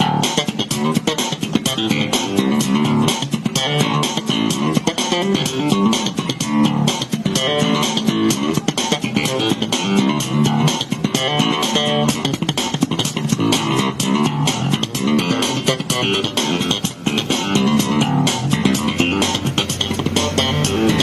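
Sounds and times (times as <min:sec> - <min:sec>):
guitar-led instrumental music: 0:00.0 - 0:21.0.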